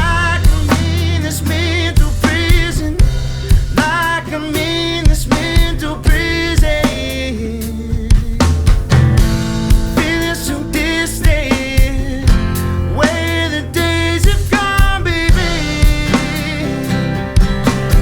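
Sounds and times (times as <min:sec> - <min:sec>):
drum kit playing: 0:00.0 - 0:18.0
rock band track: 0:00.0 - 0:18.0.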